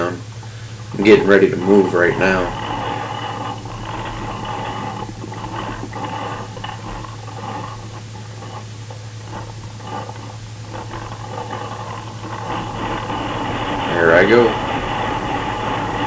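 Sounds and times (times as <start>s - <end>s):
electrical hum: 0.0s - 16.0s
faint knocks and rustles: 0.4s - 16.0s.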